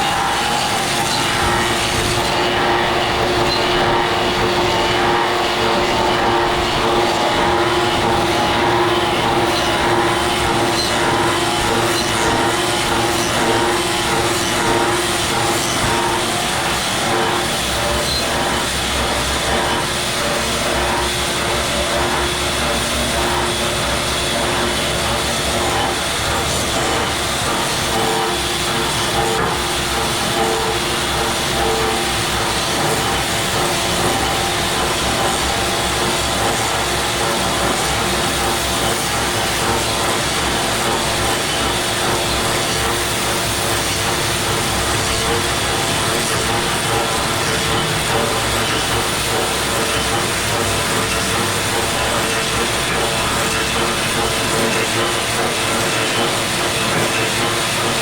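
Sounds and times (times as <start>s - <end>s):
machine noise: 0.0s - 58.0s.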